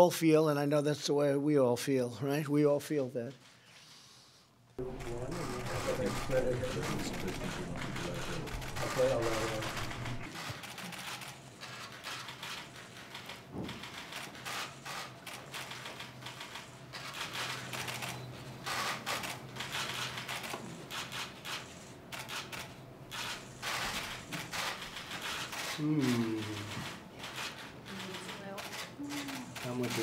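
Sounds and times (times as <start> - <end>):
camera shutters clicking: 4.9 - 30.0.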